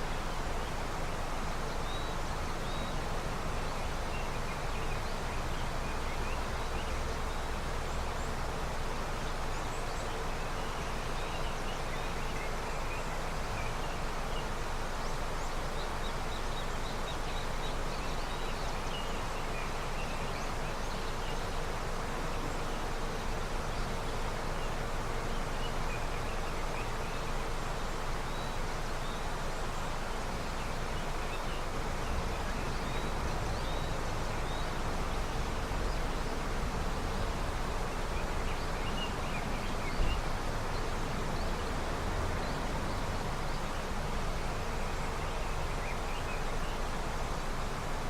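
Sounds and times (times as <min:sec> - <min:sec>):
river rushing: 0:00.0 - 0:48.0
small birds chirping: 0:00.6 - 0:48.0.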